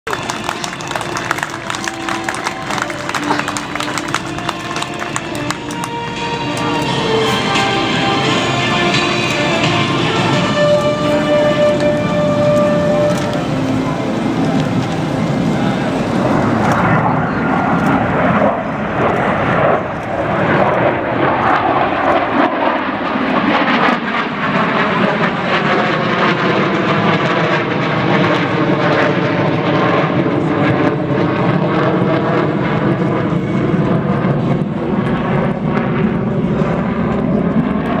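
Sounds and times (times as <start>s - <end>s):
airplane flying past: 0.1s - 38.0s.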